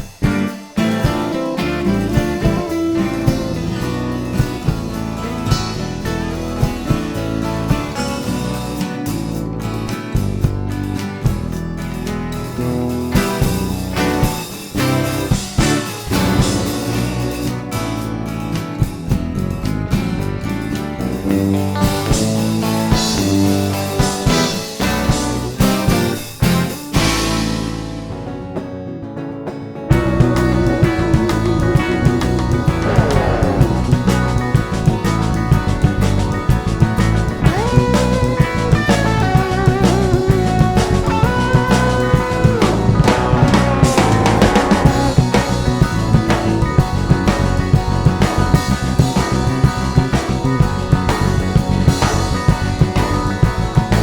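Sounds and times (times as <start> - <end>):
rock music with guitar and drums: 0.0 - 54.0.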